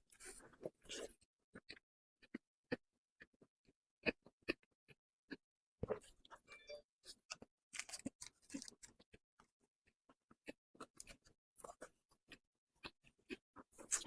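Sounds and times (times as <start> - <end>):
person chewing cake: 0.0 - 14.0.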